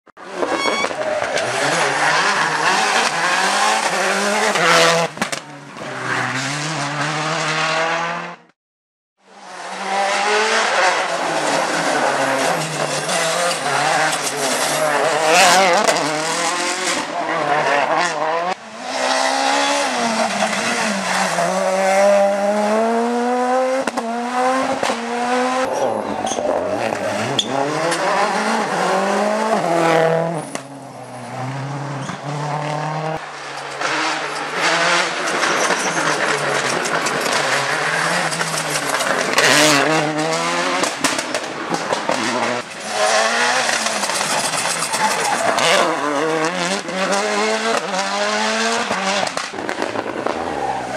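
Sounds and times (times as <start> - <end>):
rally car engines revving: 0.2 - 8.5, 9.3 - 50.9.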